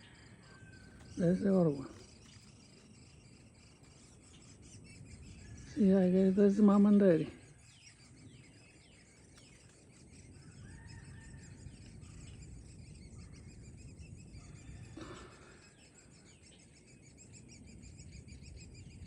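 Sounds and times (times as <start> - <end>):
woodpecker nestlings begging: 0.0 - 19.0.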